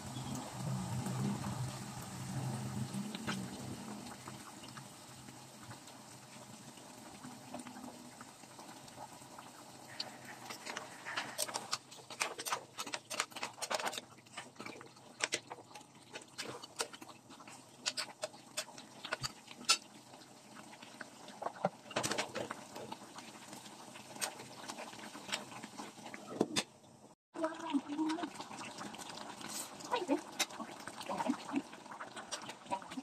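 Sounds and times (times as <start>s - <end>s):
cream sauce simmering: 0.0s - 26.4s, 27.4s - 33.0s.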